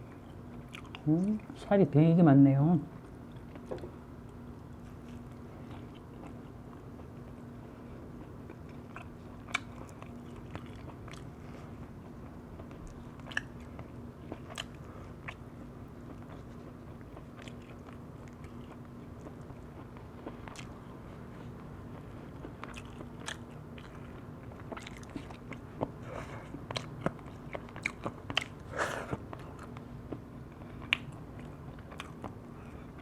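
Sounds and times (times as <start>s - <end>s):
person chewing food: 0.0s - 1.6s, 3.2s - 33.0s
steady low hum: 0.0s - 33.0s.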